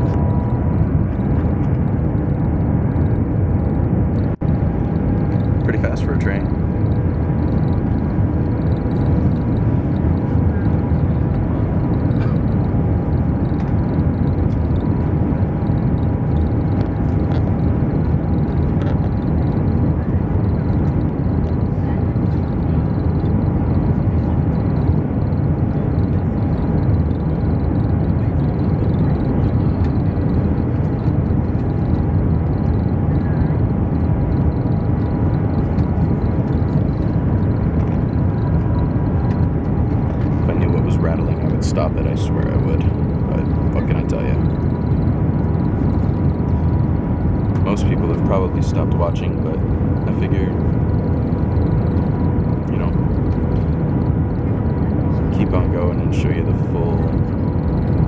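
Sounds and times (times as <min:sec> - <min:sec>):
faint steady tones: 0:00.0 - 0:58.0
train cabin rumble: 0:00.0 - 0:58.0.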